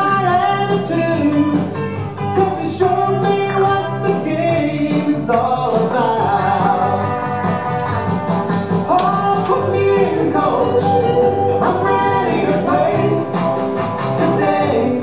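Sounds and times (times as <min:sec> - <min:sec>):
song with guitar backing: 0:00.0 - 0:15.0.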